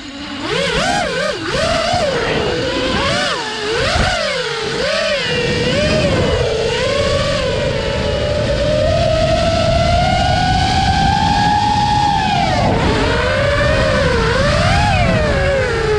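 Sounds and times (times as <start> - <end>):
drone motors whining: 0.0 - 15.9.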